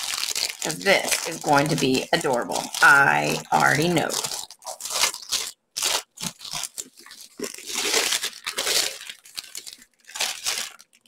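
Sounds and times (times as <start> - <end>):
plastic sleeve crinkling: 0.0 - 11.0.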